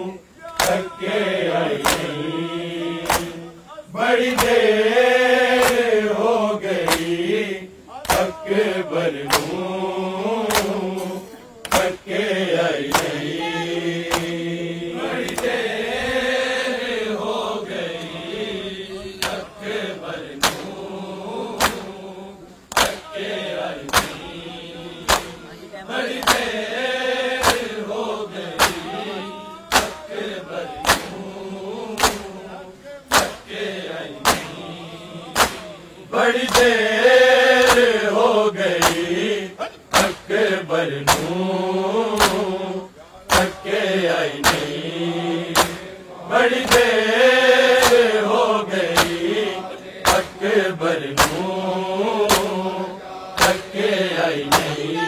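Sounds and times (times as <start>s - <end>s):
person chanting a lament: 0.0s - 55.0s
people slapping their chests: 0.3s - 15.9s, 16.6s - 55.0s.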